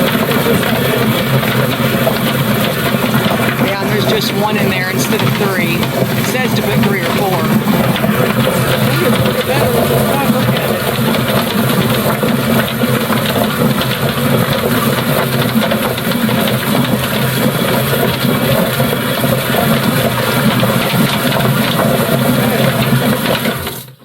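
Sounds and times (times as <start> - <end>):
chicken plucker motor running: 0.0 - 23.6.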